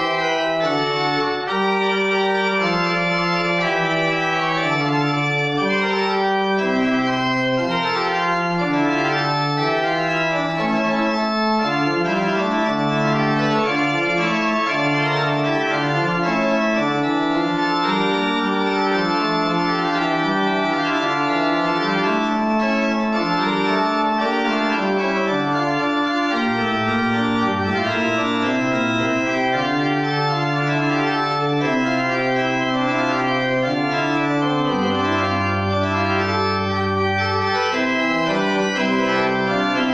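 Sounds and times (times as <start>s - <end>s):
pipe organ playing chords: 0.0s - 39.9s.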